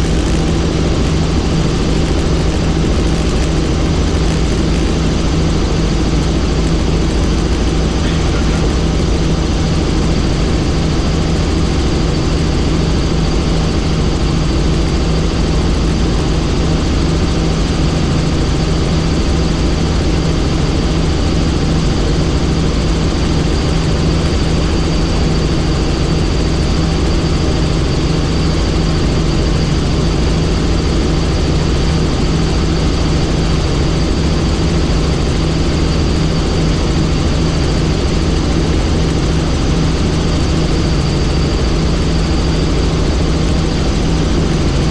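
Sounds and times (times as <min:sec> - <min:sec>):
helicopter in flight: 0:00.0 - 0:44.9.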